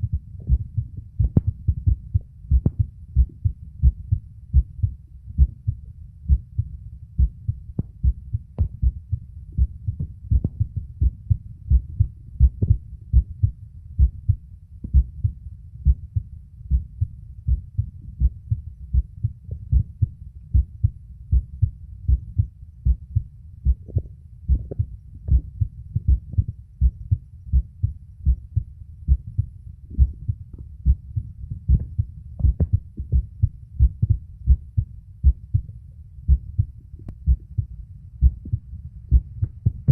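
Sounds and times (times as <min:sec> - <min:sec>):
heartbeat lub-dub: 0:00.0 - 0:39.9.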